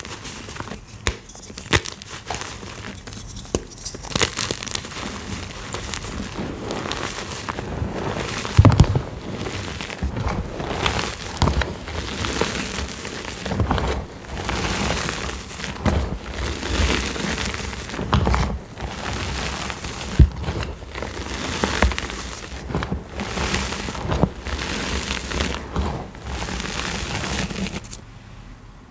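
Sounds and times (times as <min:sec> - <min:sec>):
chalk blocks crunching by hand: 0:00.0 - 0:28.0.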